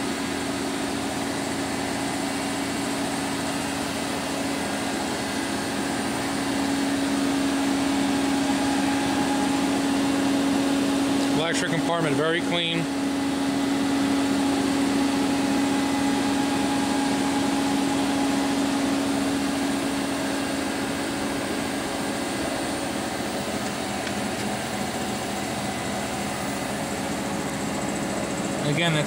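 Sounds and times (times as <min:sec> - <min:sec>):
machine hum and fan whir: 0:00.0 - 0:29.0.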